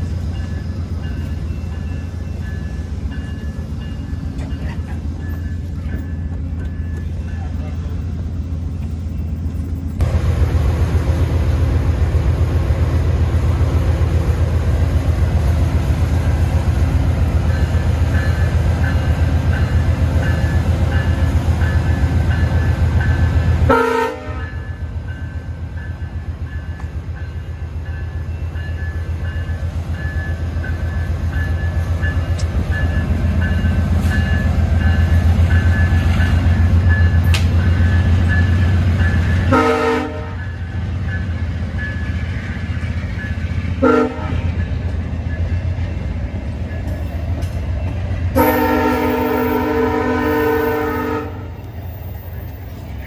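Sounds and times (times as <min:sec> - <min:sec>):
train rumbling past: 0:00.0 - 0:53.0.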